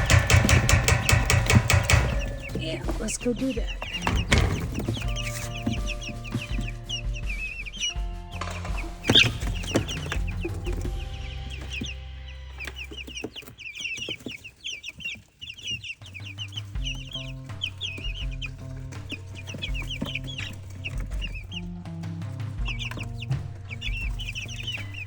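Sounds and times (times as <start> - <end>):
background music with bassline: 0.0 - 13.3, 16.1 - 25.0
chicks peeping: 0.0 - 25.0.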